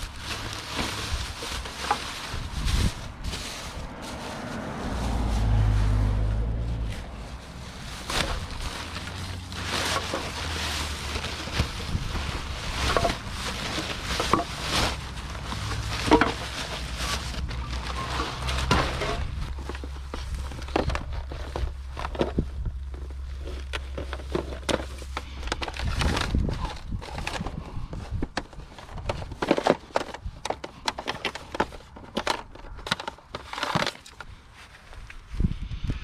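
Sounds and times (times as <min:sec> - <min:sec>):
low engine hum: 0:00.0 - 0:29.4.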